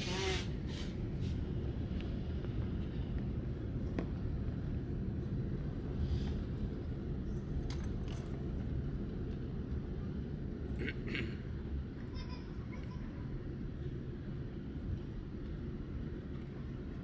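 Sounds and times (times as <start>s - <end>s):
airliner cabin rumble on runway: 0.0s - 17.0s.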